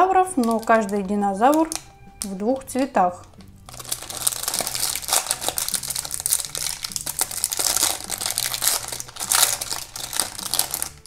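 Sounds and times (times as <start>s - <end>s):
plastic wrapper crackling: 0.0s - 11.0s.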